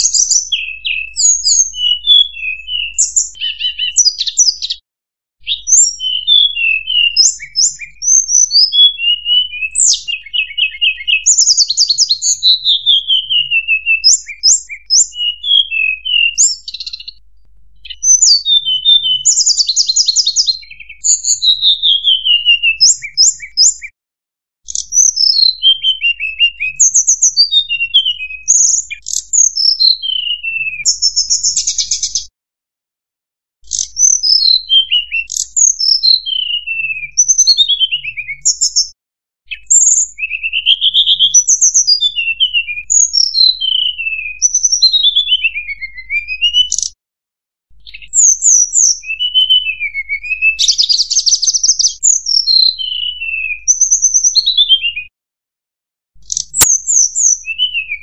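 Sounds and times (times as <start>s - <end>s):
bird song whistles and trills: 0.0s - 4.8s, 5.4s - 24.0s, 24.6s - 32.3s, 33.6s - 47.0s, 47.7s - 55.1s, 56.2s - 58.0s.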